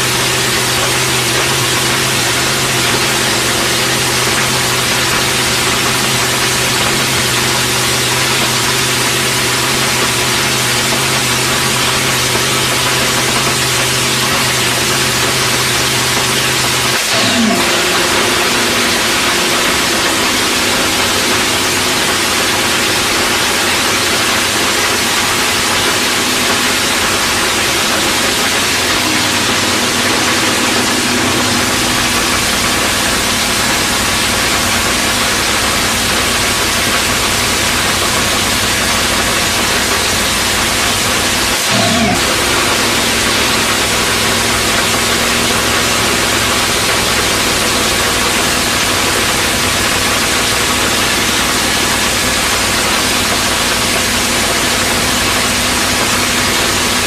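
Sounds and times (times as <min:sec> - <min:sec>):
dragster engine running loud: 0:00.0 - 0:57.0.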